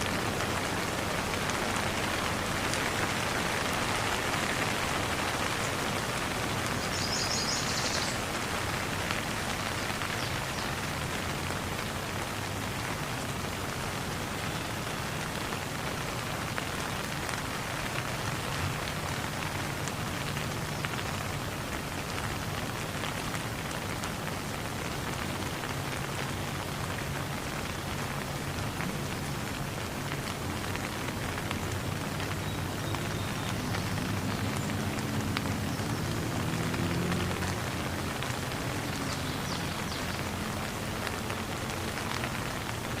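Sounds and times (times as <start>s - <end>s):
steady rain pattering: 0.0s - 43.0s.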